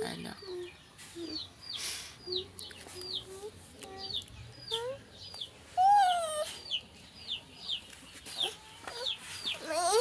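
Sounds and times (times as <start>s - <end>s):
birds peeping: 0.0s - 10.0s.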